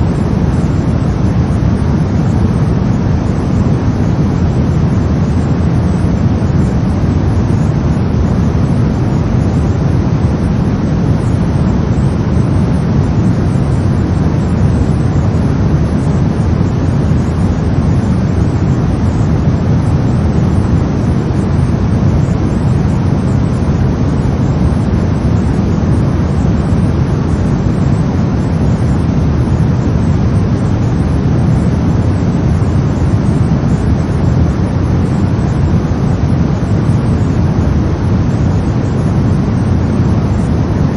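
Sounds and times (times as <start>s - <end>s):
brown noise: 0.0s - 40.9s.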